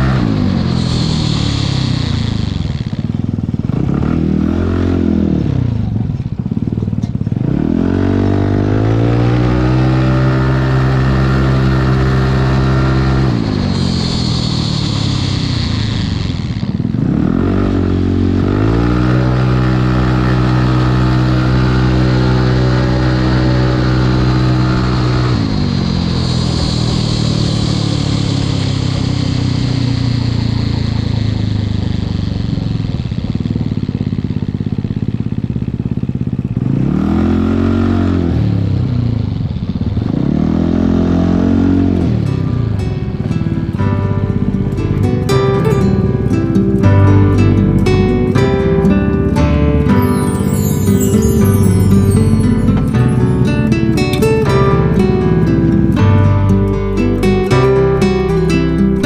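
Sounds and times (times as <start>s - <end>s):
scooter engine revving: 0.0s - 59.0s.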